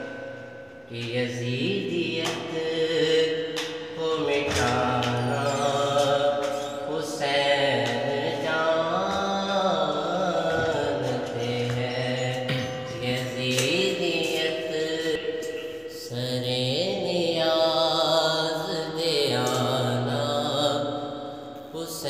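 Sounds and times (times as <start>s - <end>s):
man singing devotional song: 0.9s - 22.0s.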